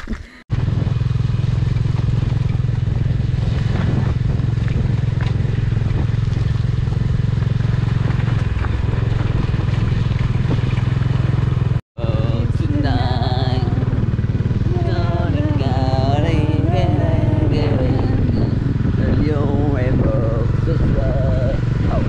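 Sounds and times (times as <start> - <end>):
motorcycle engine running: 0.5 - 22.0.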